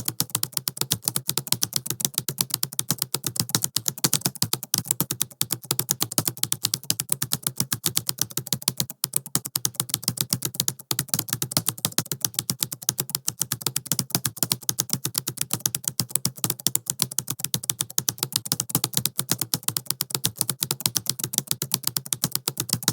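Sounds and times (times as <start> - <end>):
fast typing on laptop keyboard: 0.0 - 22.9.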